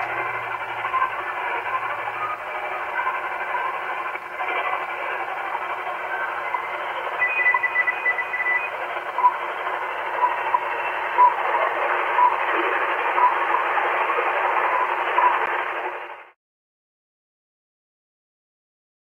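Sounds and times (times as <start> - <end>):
radio static hiss: 0.0 - 16.4.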